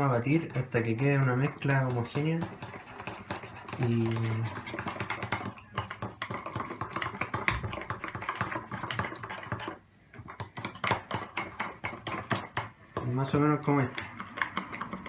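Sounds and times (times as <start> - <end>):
utensil beating batter in a cup: 0.0 - 15.0.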